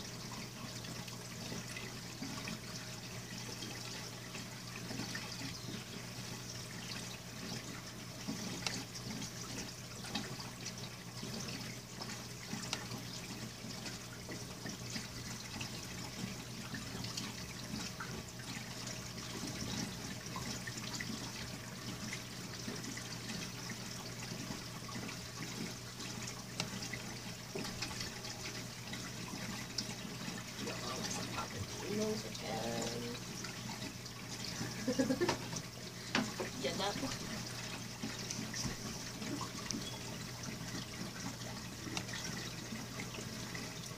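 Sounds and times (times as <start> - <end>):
aquarium water trickling: 0.0 - 43.9
low steady hum: 0.0 - 43.9.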